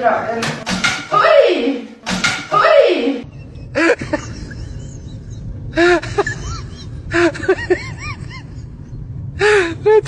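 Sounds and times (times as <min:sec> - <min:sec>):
low room noise: 0:00.0 - 0:10.0.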